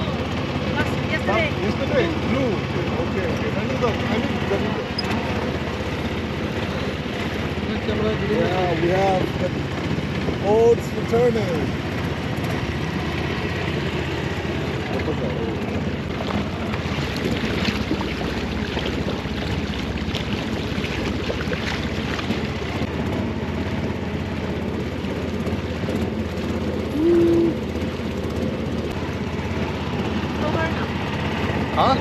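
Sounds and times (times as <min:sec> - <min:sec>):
motorboat engine running: 0:00.0 - 0:32.0
water washing against hull: 0:00.0 - 0:32.0.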